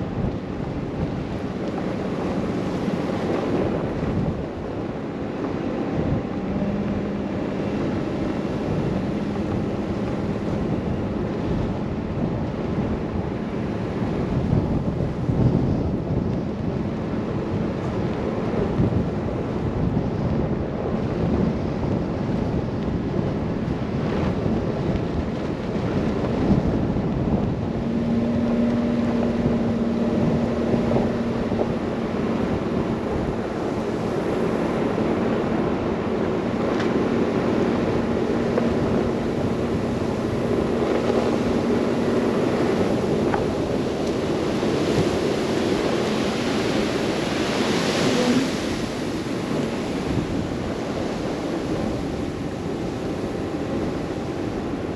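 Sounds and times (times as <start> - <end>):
wind rushing: 0.0 - 51.2
car driving through snow: 0.0 - 54.9.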